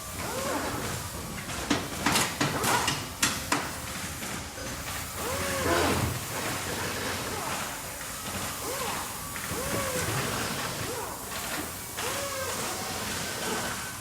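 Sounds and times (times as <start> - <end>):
steady mechanical noise: 0.0 - 14.0.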